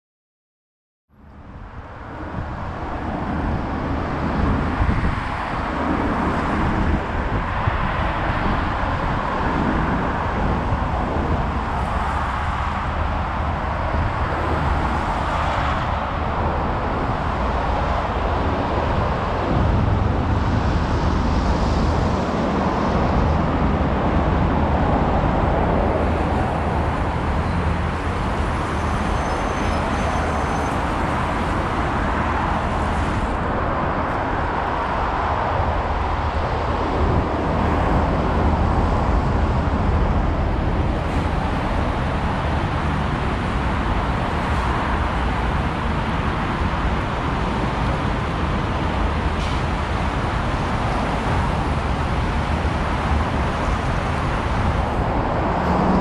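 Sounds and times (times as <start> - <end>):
road traffic cars passing: 1.1 - 56.0.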